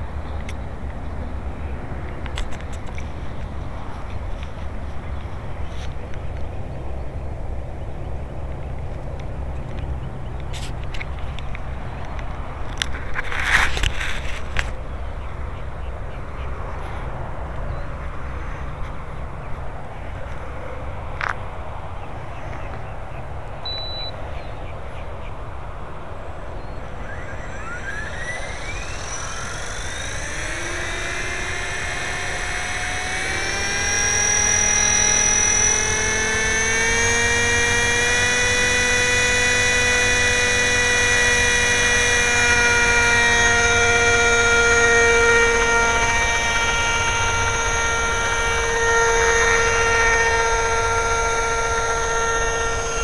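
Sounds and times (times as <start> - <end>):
rc helicopter rotor whine: 0.0 - 53.0.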